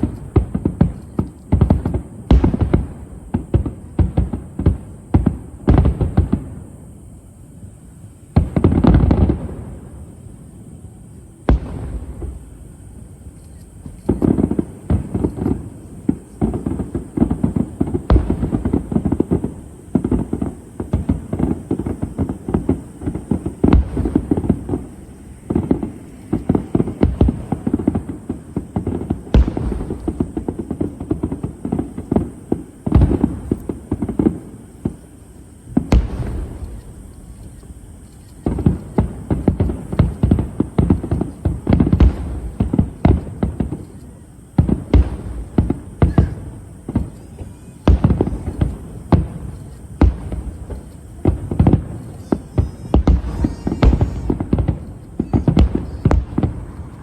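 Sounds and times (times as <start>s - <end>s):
fireworks booming: 0.0s - 57.0s
fireworks crackling: 0.0s - 57.0s.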